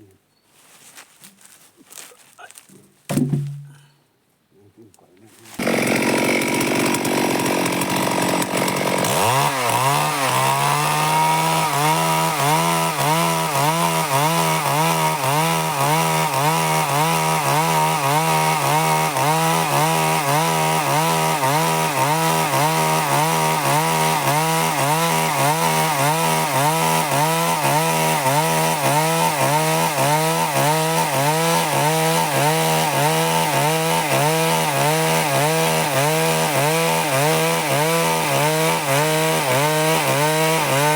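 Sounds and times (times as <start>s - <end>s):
chainsaw cutting wood: 5.6s - 40.9s.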